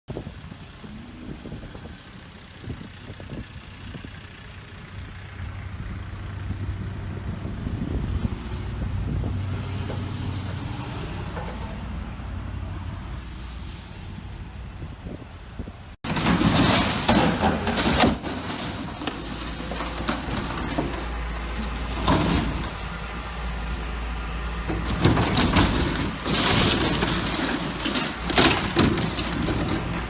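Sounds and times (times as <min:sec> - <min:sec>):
excavator diesel engine running: 0:00.1 - 0:13.0, 0:15.5 - 0:30.0.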